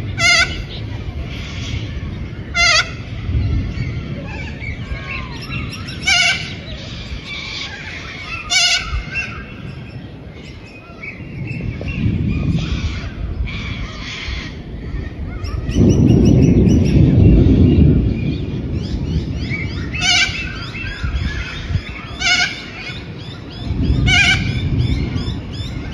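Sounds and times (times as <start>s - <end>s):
loud low rumble: 0.0s - 25.9s.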